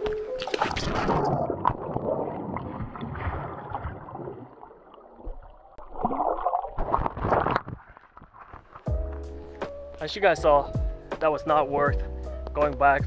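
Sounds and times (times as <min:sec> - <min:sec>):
muffled water sloshing and gurgling: 0:00.0 - 0:11.1.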